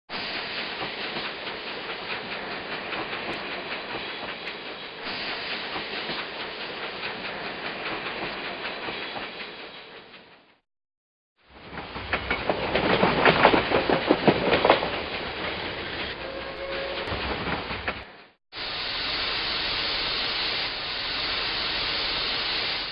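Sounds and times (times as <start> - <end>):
moving train clatter: 0.1 - 10.6, 11.4 - 22.9.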